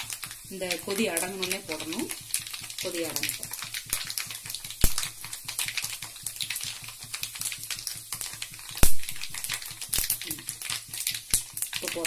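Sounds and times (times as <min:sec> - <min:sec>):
seeds crackling and popping in hot oil: 0:00.0 - 0:12.0.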